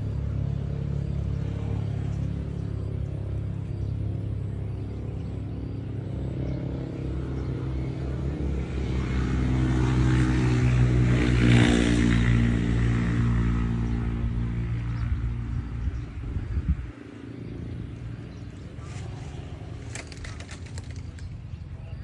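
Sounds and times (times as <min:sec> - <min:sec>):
vehicle engine passing by: 0:00.0 - 0:21.6.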